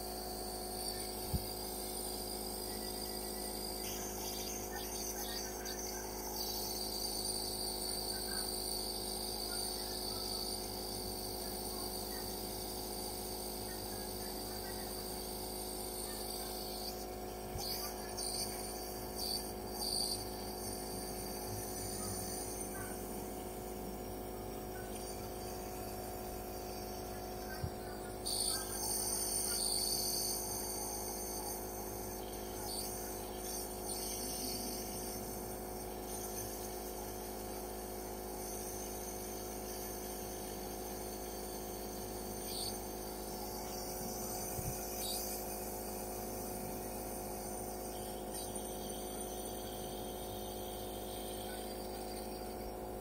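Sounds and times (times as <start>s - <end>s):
nebulizer compressor humming: 0.0s - 53.0s.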